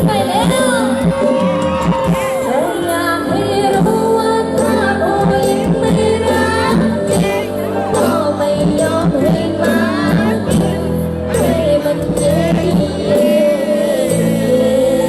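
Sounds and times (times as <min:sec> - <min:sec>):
keyboard and bass band music: 0:00.0 - 0:15.0
person singing: 0:02.2 - 0:15.0.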